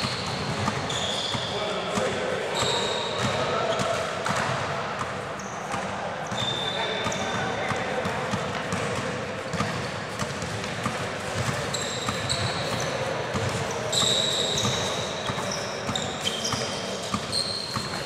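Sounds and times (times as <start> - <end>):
players' voices echoing: 0.0 - 18.0
sneakers squeaking on floor: 0.0 - 18.0.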